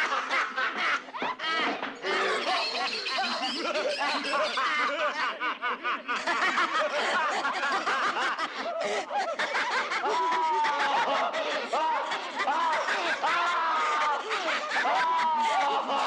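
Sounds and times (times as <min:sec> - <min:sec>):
people cackling laughter: 0:00.0 - 0:16.0.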